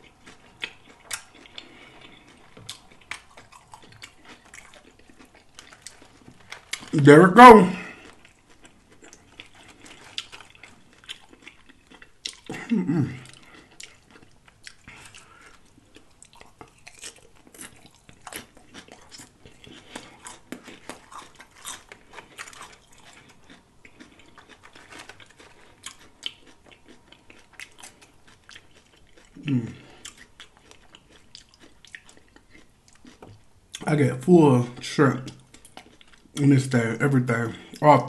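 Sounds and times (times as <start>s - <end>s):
crunchy chewing: 0.0s - 7.1s, 7.8s - 34.0s, 34.6s - 38.0s.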